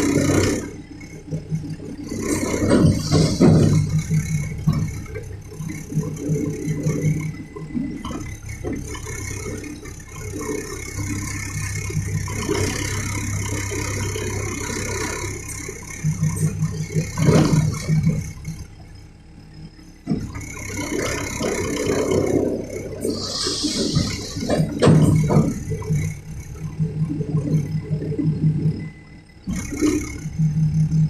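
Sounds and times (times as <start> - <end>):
clattering and rattling: 0.0 - 18.9, 20.0 - 28.8
diesel machinery engine running: 0.0 - 31.0.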